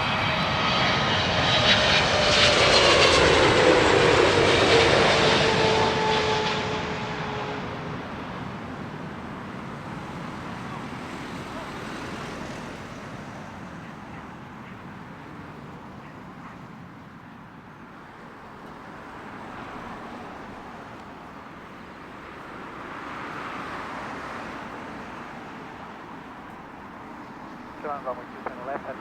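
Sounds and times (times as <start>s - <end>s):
rushing engine noise: 0.0s - 16.7s, 17.9s - 29.0s.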